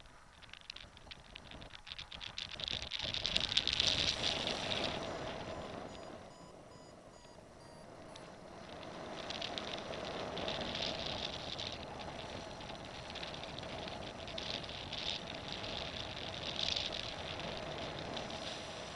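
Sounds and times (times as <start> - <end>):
wind rushing over microphone: 0.0 - 18.9.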